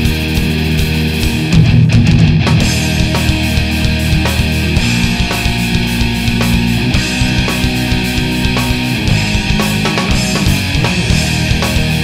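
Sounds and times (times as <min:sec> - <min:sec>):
distorted electric guitars: 0:00.0 - 0:12.0
drums: 0:00.0 - 0:12.0.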